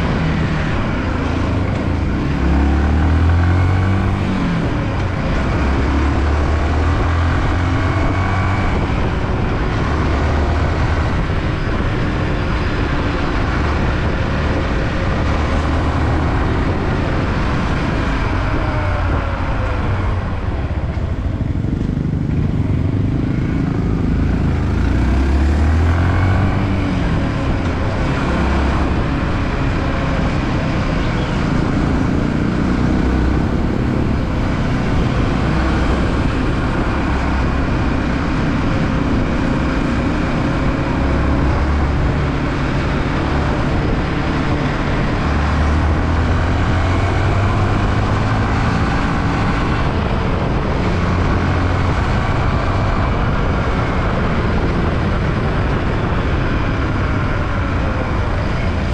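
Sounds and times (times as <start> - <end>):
motorcycle engine running: 0.0 - 58.9
wind rushing on microphone: 0.0 - 58.9.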